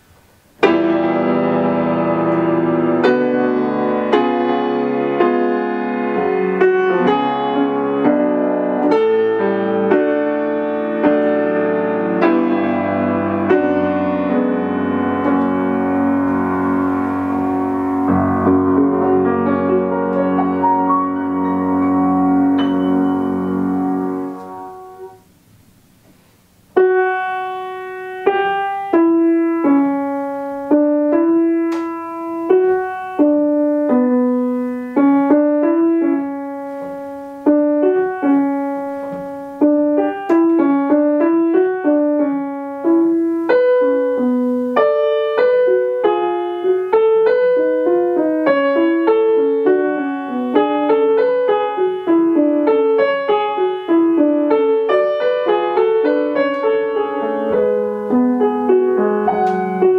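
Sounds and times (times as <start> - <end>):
grand piano playing: 0.0 - 25.8, 26.5 - 59.9.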